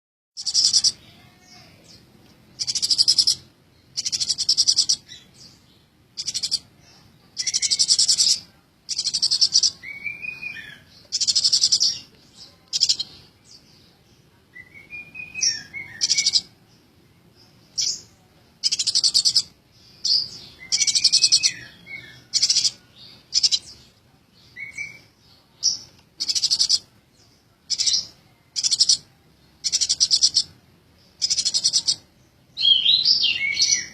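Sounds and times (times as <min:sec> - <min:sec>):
sparrow chirping: 0:00.4 - 0:33.9.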